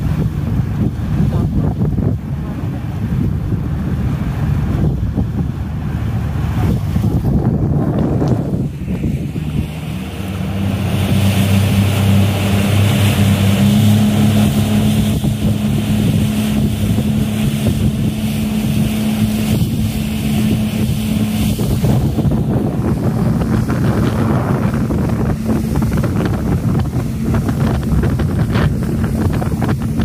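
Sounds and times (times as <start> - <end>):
outboard motors running: 0.0 - 30.0
water rushing past hull: 0.0 - 30.0
wind on microphone: 0.0 - 30.0.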